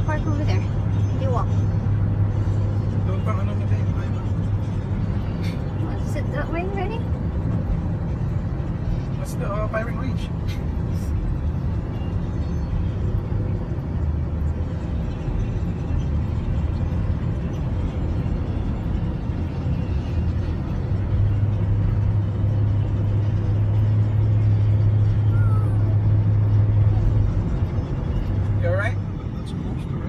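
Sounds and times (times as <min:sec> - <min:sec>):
car engine and tyres rumble: 0:00.0 - 0:30.0.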